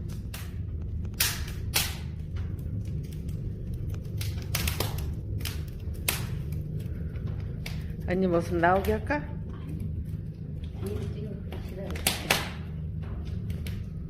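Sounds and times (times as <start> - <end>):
fire low rumble: 0.0 - 14.0
firewood crackling and popping: 0.0 - 14.0.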